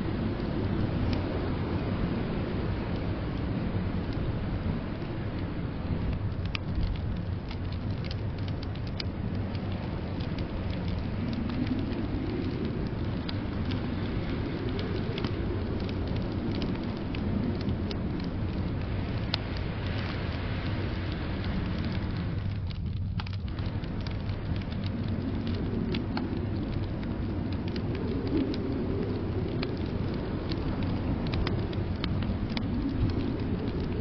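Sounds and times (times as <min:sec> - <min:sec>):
blizzard wind rumbling: 0:00.0 - 0:34.0
wood fire crackling: 0:00.0 - 0:34.0.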